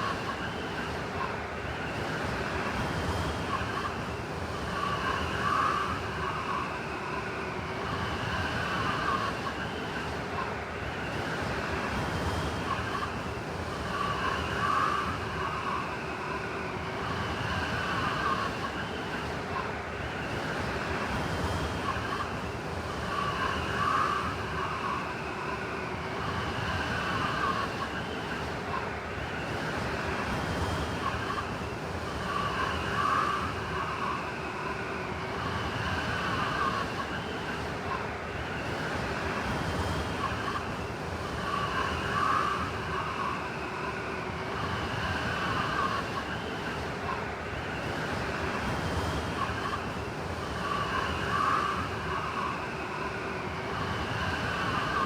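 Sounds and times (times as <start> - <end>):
blizzard wind howling: 0.0 - 55.0.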